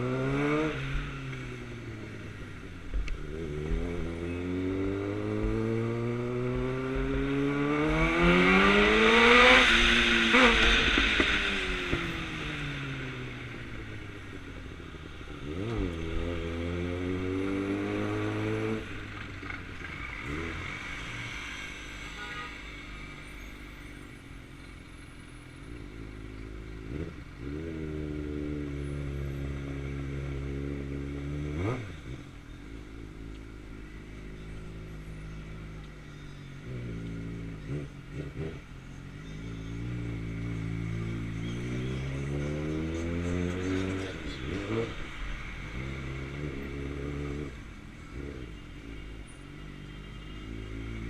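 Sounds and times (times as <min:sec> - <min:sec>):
motorcycle engine revving: 0:00.0 - 0:22.4, 0:25.7 - 0:51.0.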